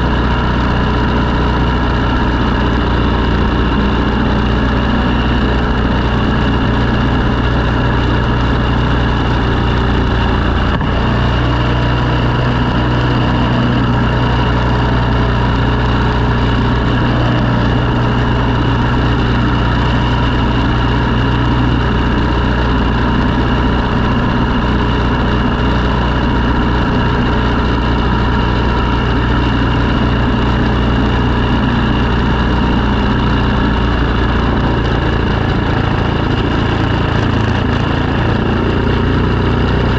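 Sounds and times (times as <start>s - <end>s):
snow-clearing machine engine: 0.0s - 39.9s.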